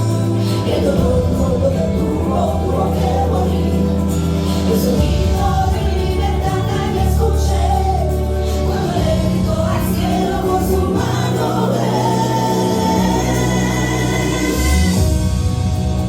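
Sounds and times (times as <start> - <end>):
held bass notes: 0.0 - 16.0
singing voices: 0.0 - 16.0.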